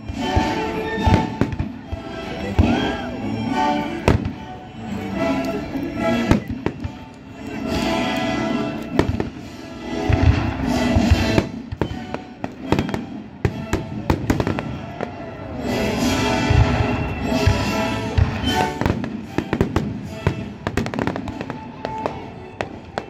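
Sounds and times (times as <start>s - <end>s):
fireworks bangs and crackles: 0.0s - 3.1s, 4.0s - 4.6s, 5.6s - 23.0s
orchestra playing classical music: 0.0s - 23.0s.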